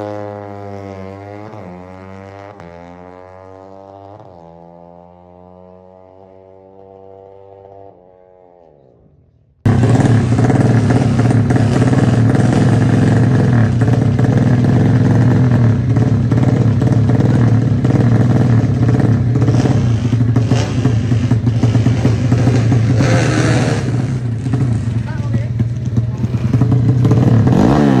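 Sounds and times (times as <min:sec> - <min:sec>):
motorcycle engine running: 0:00.0 - 0:08.6, 0:09.7 - 0:28.0.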